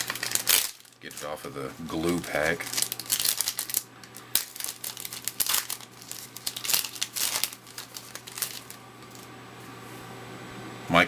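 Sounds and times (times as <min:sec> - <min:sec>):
wrapper crinkling and tearing: 0:00.0 - 0:09.3.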